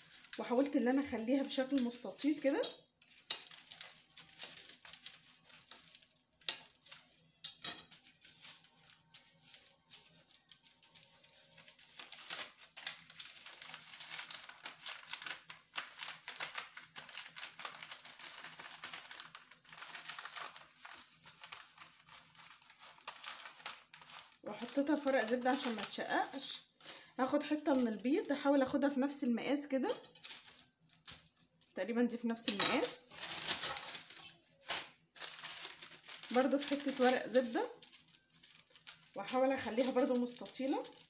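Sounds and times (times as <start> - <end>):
parchment paper crinkling: 0.0 - 28.4, 29.9 - 41.0.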